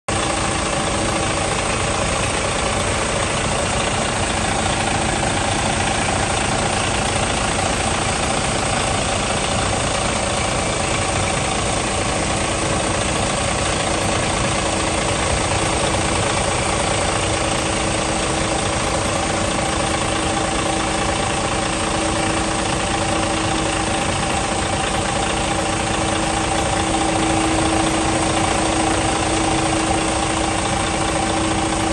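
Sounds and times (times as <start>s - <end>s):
constant whine: 0.1s - 31.9s
diesel engine idling: 0.1s - 31.9s.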